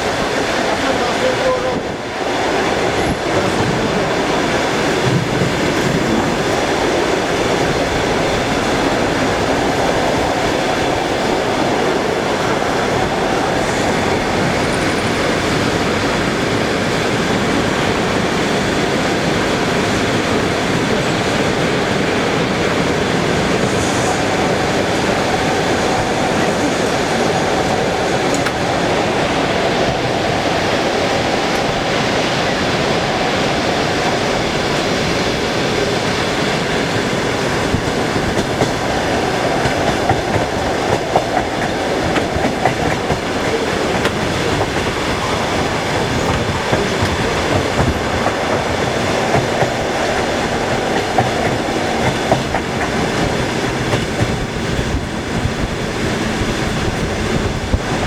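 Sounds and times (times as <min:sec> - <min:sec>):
train rumbling on rails: 0:00.0 - 0:58.0
wheels clacking over rail joints: 0:00.0 - 0:58.0.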